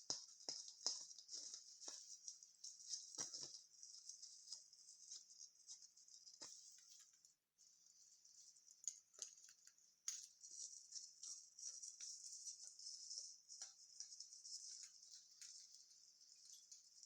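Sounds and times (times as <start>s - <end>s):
small crackles and ticks: 0.0s - 17.0s.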